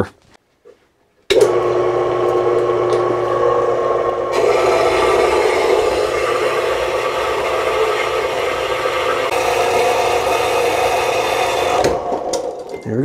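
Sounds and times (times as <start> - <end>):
bandsaw motor hum: 1.3 - 12.8.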